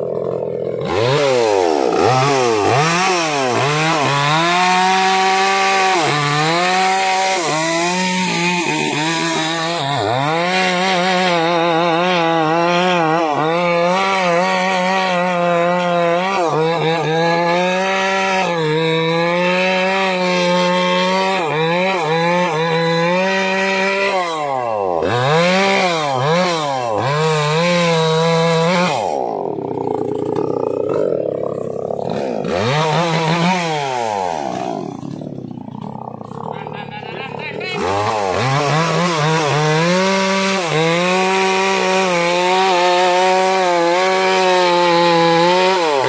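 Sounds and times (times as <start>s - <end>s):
chainsaw cutting a log: 0.0s - 46.0s.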